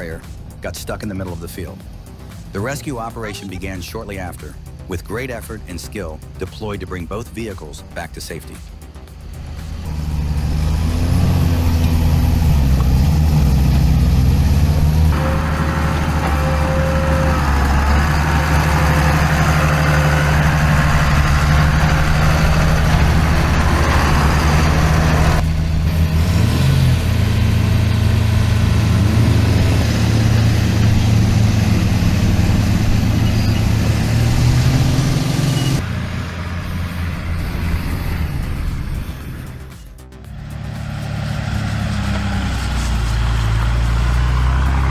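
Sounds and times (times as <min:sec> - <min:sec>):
heavy vehicle engine running: 0:07.5 - 0:44.9.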